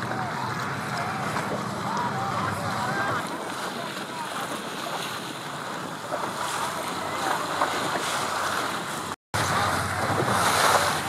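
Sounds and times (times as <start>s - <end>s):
choppy water splashing: 0.0s - 11.0s
wind buffeting microphone: 0.0s - 11.0s.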